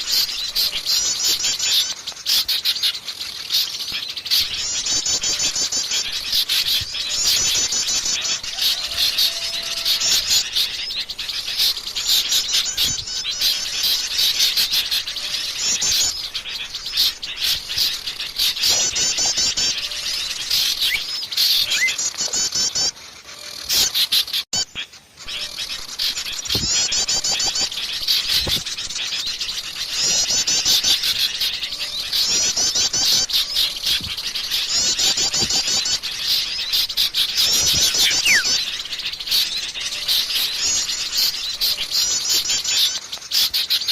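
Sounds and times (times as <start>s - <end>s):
chorus of songbirds chattering: 0.0s - 43.9s.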